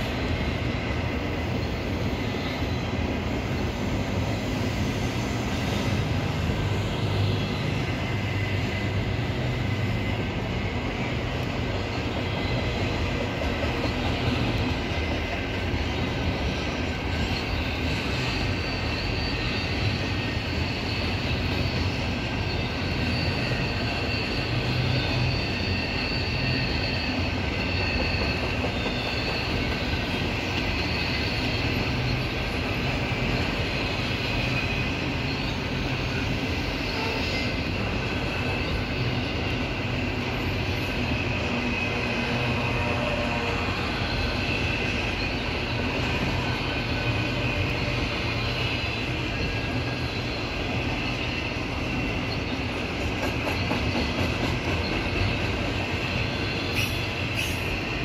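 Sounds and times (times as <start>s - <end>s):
high wheel squeal: 0.0s - 58.0s
train wheels rumbling on track: 0.0s - 58.0s.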